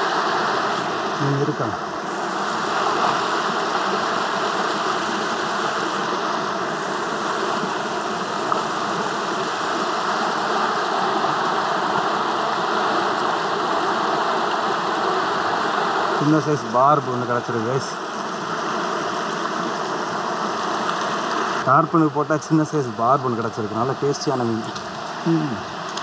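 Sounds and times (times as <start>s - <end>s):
stream water flowing over rocks: 0.0s - 26.0s.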